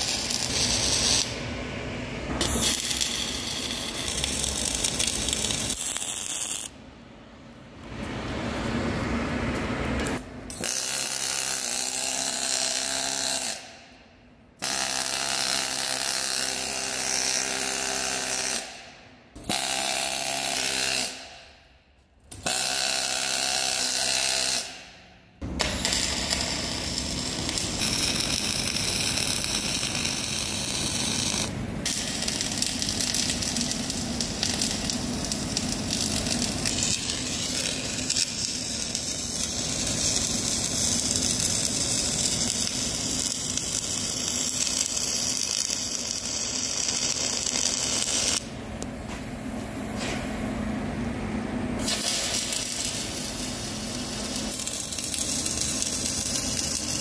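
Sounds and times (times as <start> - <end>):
welding arc buzzing and crackling: 0.0 - 1.6, 2.3 - 6.8, 9.8 - 13.8, 14.6 - 18.8, 19.4 - 21.6, 22.3 - 57.0.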